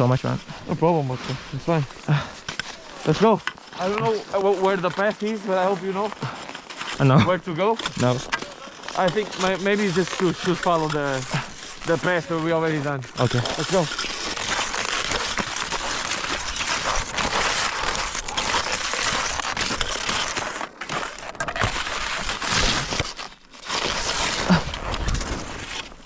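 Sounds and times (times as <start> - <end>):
footsteps crunching through snow: 0.0 - 26.0.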